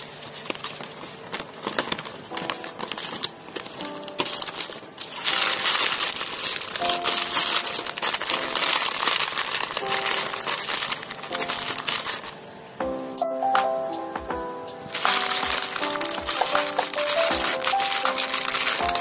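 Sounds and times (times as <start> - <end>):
plastic bags crinkling: 0.0 - 12.6, 14.9 - 19.0
faint background music: 0.0 - 19.0.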